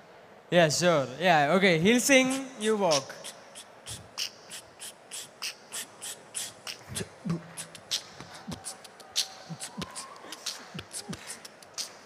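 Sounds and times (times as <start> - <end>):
beatboxed hissing hi-hat sounds: 2.1 - 12.0
beatboxed low kick-drum thumps: 2.2 - 12.0.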